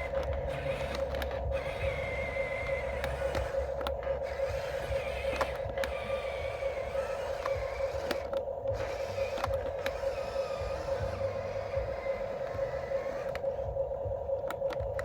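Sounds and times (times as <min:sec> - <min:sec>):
faint wavering higher whine: 0:00.0 - 0:15.0
toy electric motors whining: 0:00.0 - 0:15.0.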